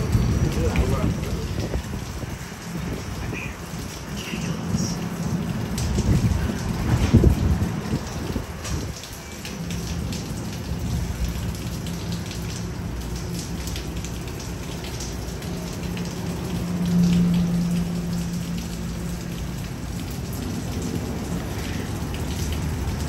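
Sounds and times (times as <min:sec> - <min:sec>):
rain falling and dripping: 0:00.0 - 0:23.0.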